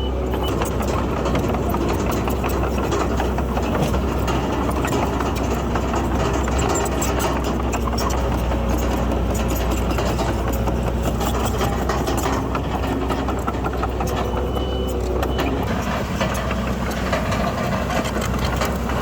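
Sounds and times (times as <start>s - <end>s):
heavy diesel engine running: 0.0s - 19.0s
fast rattling clatter: 0.4s - 19.0s.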